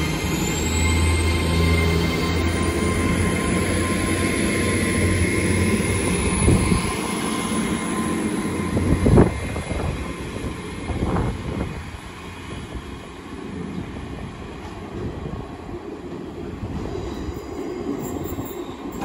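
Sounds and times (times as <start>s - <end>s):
train engine hum with whine: 0.0s - 19.0s.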